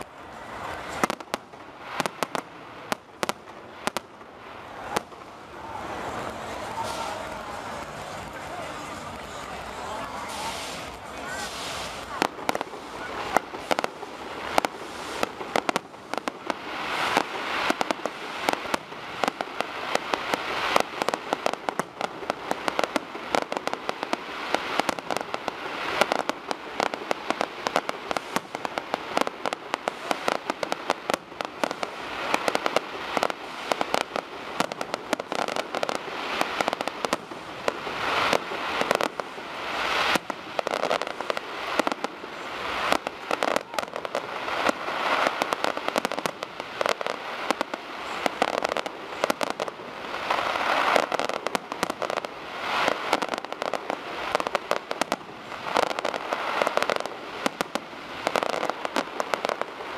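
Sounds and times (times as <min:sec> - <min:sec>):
firework crackling: 0:00.0 - 0:59.9.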